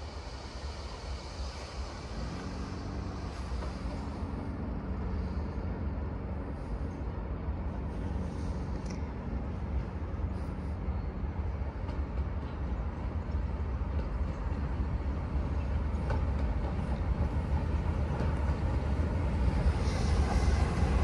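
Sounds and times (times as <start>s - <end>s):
distant locomotive rumble: 0.0s - 21.0s.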